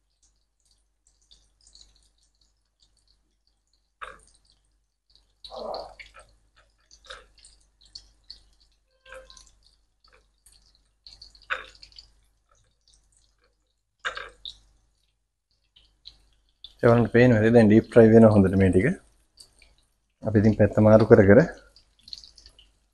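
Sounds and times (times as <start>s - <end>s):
oil crackling and popping: 0.0s - 22.9s.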